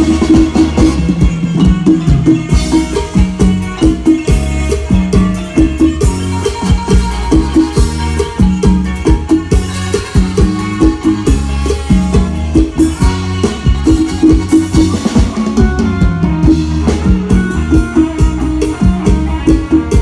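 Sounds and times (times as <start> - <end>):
amplified melody: 0.0 - 20.0
drum kit beat: 0.0 - 20.0
procession band playing: 0.0 - 20.0
repeating bass line: 0.0 - 20.0.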